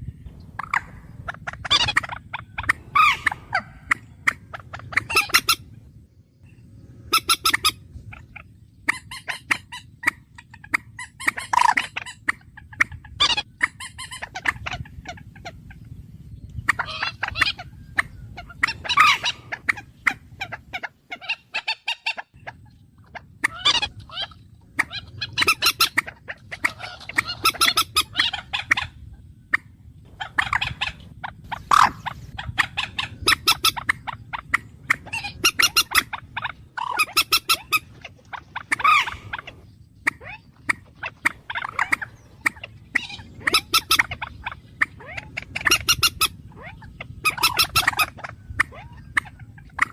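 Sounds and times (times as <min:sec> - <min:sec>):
low steady hum: 0:00.0 - 0:49.9
bird chattering calls: 0:00.3 - 0:49.9.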